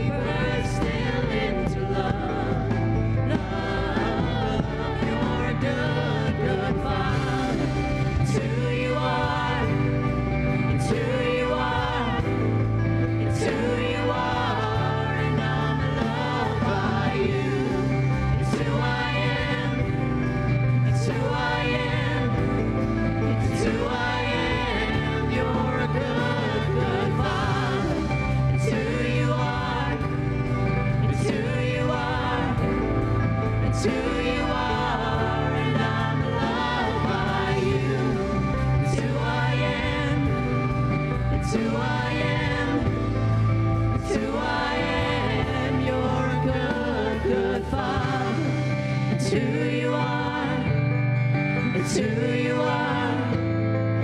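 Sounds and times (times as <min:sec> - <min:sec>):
bass: 0:00.0 - 0:54.0
drums: 0:00.0 - 0:54.0
guitar: 0:00.0 - 0:54.0
singers: 0:00.0 - 0:54.0.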